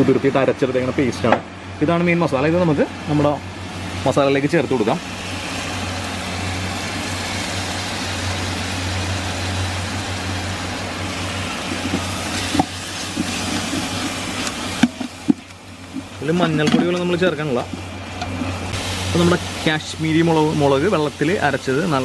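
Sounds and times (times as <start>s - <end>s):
frying hiss: 1.9s - 22.0s.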